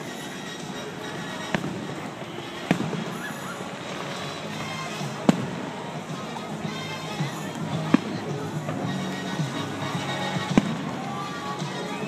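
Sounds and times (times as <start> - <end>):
background music: 0.0 - 12.0
fireworks bangs: 0.6 - 12.0.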